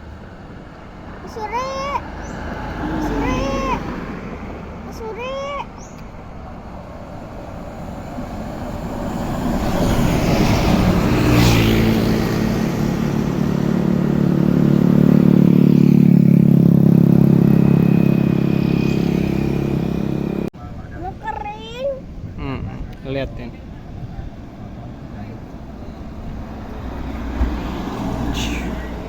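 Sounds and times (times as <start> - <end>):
bus engine droning: 0.0 - 20.5, 23.6 - 29.0
large vehicle passing: 0.0 - 20.5, 23.7 - 29.0
road traffic: 0.0 - 29.0.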